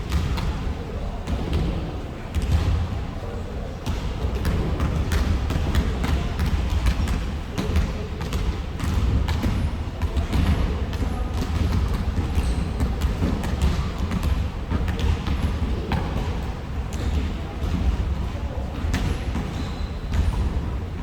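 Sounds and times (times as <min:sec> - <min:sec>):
basketballs bouncing on gym floor: 0:00.0 - 0:03.0, 0:03.8 - 0:21.0.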